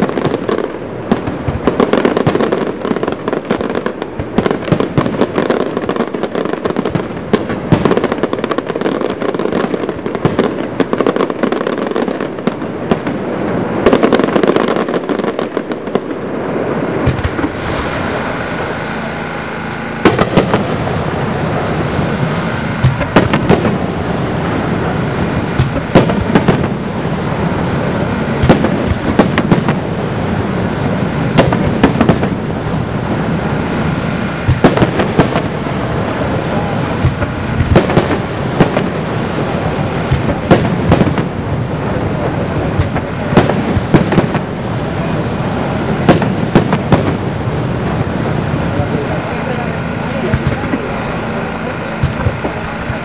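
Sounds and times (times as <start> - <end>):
firework crackle and rumble: 0.0 - 53.0
firework shells bursting: 0.0 - 53.0.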